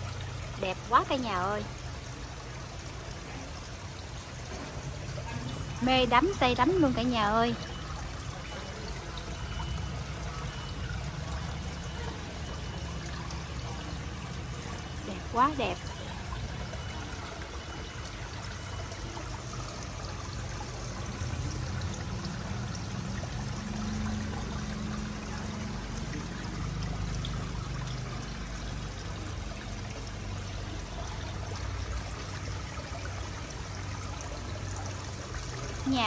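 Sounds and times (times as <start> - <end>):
small waterfall splashing into pond: 0.0 - 36.0.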